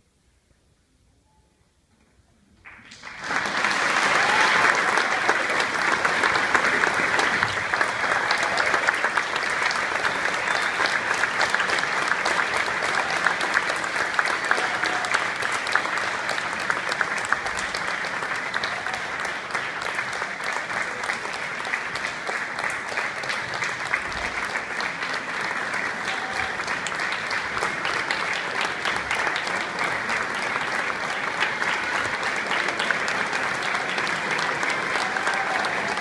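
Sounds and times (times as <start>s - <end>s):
audience applauding: 2.6s - 36.0s.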